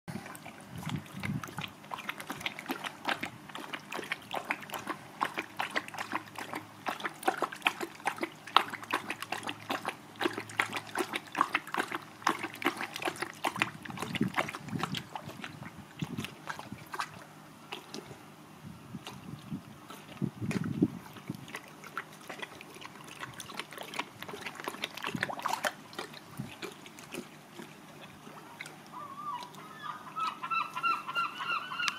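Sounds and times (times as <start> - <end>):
puppy lapping water: 0.1 - 18.3, 18.9 - 31.9.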